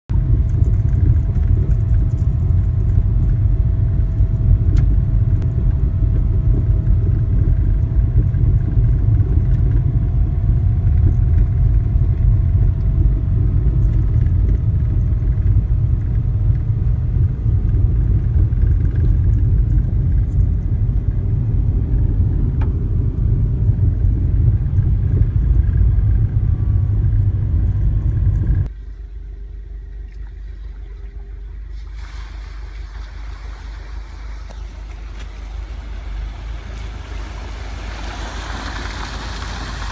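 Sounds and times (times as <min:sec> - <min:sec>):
faint steady whine: 0:00.1 - 0:39.9
tyres and engine rumble: 0:00.1 - 0:39.9.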